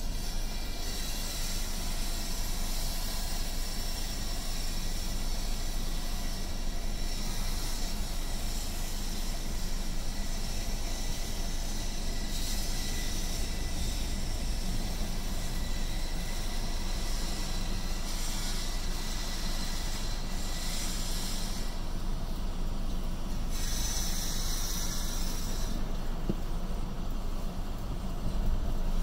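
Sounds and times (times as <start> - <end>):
car idling rumble and hiss: 0.0 - 29.0.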